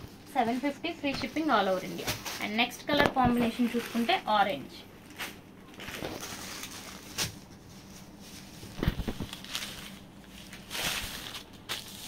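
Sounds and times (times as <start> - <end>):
fabric rustling: 0.0 - 12.0.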